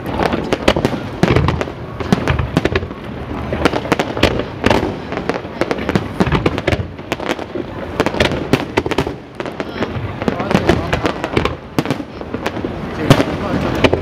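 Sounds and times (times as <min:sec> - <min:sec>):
deep fireworks booms: 0:00.0 - 0:14.0
fireworks bangs and crackling pops: 0:00.0 - 0:14.0.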